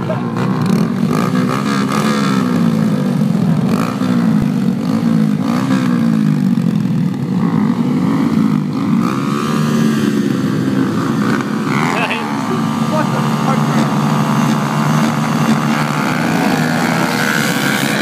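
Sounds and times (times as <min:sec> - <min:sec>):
small motorbike engines revving: 0:00.0 - 0:18.0.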